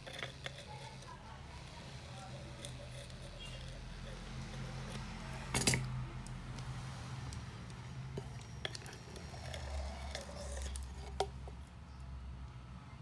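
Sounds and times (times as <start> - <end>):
small tool scraping: 0.0 - 5.9, 6.6 - 11.7.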